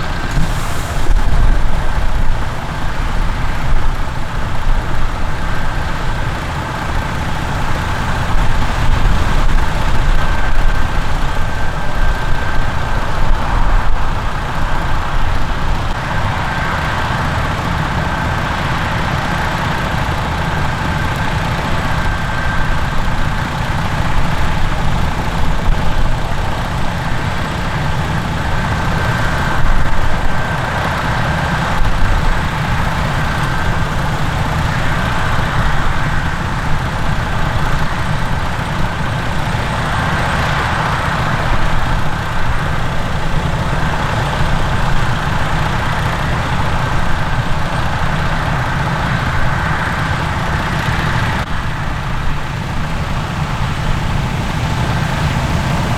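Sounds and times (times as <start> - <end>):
diesel engine rumble: 0.0 - 55.9
high machinery whine: 0.0 - 55.9.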